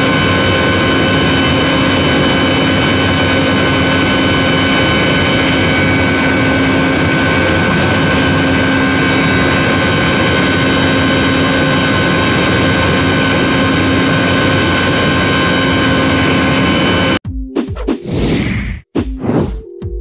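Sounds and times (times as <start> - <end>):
electric pump motor droning: 0.0 - 17.2
high machine whine: 0.0 - 19.5.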